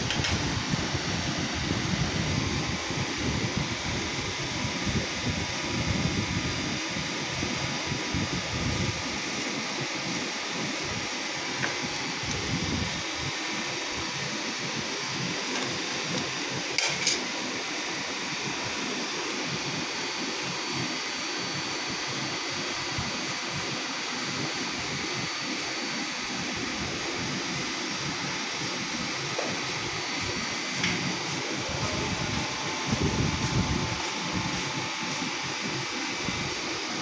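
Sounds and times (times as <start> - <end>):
steady rushing machinery noise: 0.0 - 37.0.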